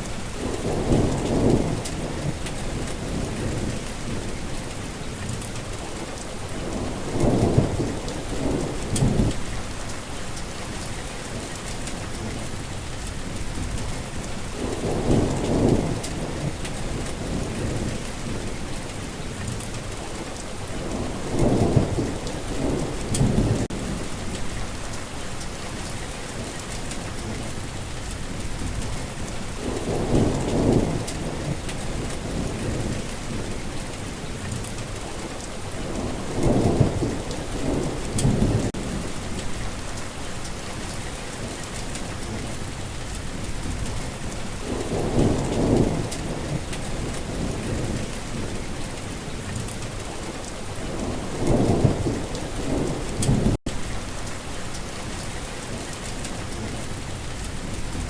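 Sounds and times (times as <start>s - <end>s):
thunder rumbling: 0.0s - 9.9s, 10.6s - 25.0s, 25.6s - 58.0s
heavy rain: 0.0s - 58.0s.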